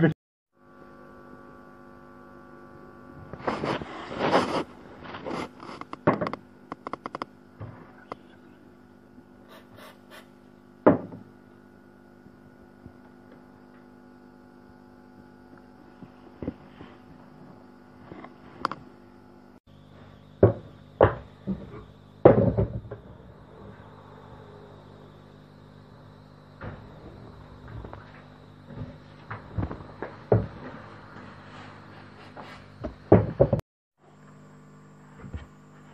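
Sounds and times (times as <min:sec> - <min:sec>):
steady electrical hum: 0:00.0 - 0:35.9.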